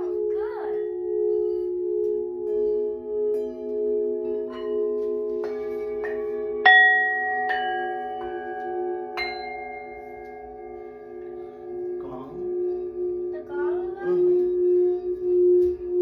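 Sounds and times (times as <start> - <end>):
low hum of singing bowls: 0.0 - 16.0
singing bowl strikes ringing: 2.0 - 15.8.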